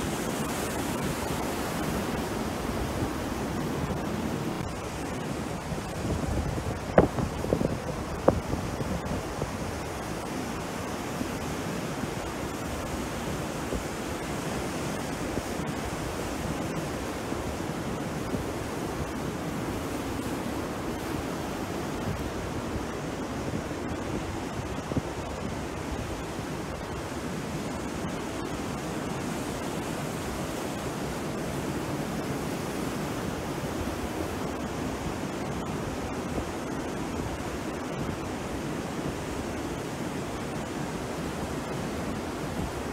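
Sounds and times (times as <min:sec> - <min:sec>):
sea surf washing onto beach: 0:00.0 - 0:42.9.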